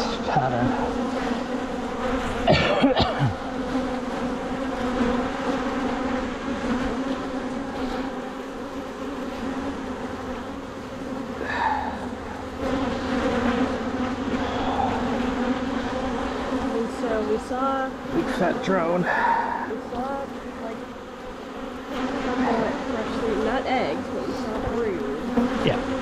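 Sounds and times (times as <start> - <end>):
honeybees buzzing: 0.0 - 26.0.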